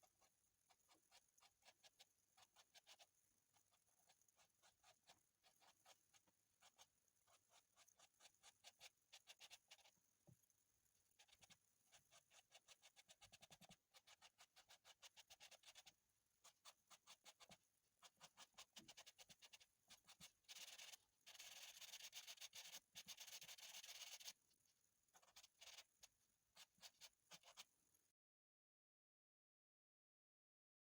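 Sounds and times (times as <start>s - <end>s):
pencil scratching on paper: 0.0s - 10.0s, 11.2s - 24.4s, 25.2s - 27.7s.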